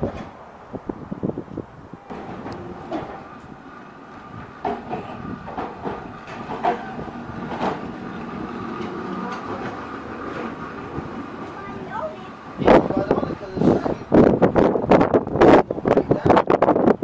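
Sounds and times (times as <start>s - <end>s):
streetcar wheels clicking on rails: 0.0s - 17.0s
streetcar whine: 0.0s - 17.0s.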